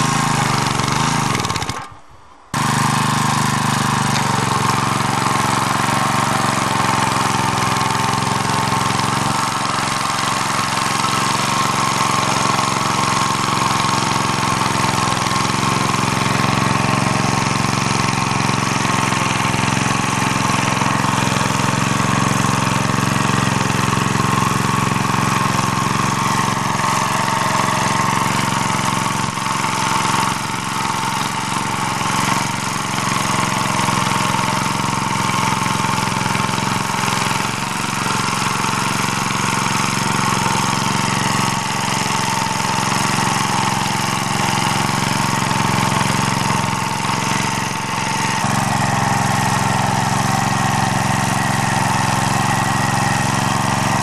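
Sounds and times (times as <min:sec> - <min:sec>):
rotary tiller churning soil: 0:00.0 - 0:54.0
walk-behind tractor engine running: 0:00.0 - 0:54.0.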